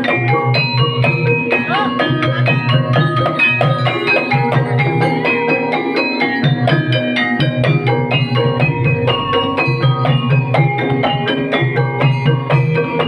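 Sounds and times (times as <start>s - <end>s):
drums: 0.0s - 13.0s
struck pitched percussion ensemble: 0.0s - 13.0s.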